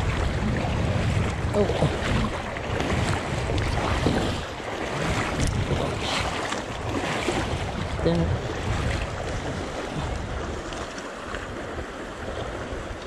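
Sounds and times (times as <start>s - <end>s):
rushing river water: 0.0s - 13.0s
wind rumbling on microphone: 0.0s - 13.0s.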